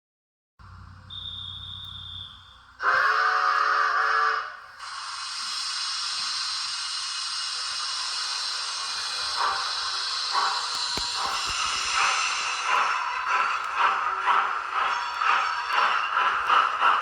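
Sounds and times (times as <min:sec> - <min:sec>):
model train running: 0:00.6 - 0:17.0.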